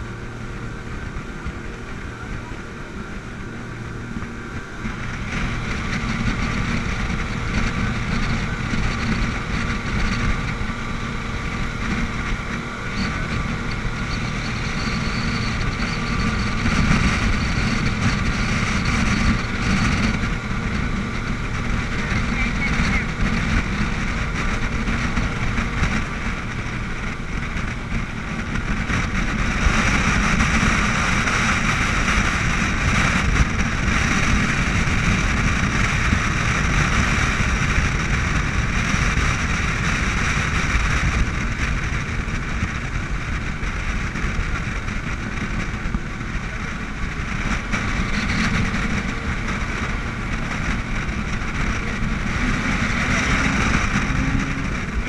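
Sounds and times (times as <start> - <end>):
hull spray: 0.0 - 55.0
speedboat engine rushing: 0.0 - 55.0
wind noise: 0.0 - 55.0.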